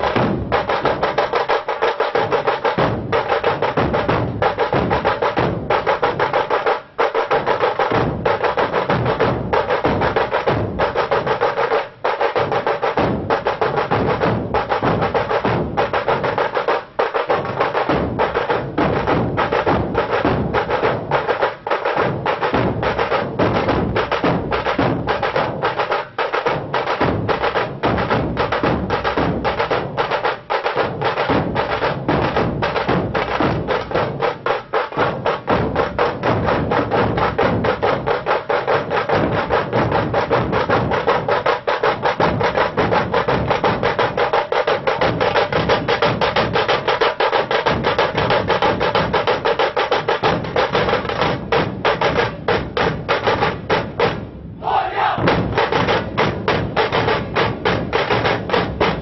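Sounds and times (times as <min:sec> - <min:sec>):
dhol and tasha drumming: 0:00.0 - 0:59.0.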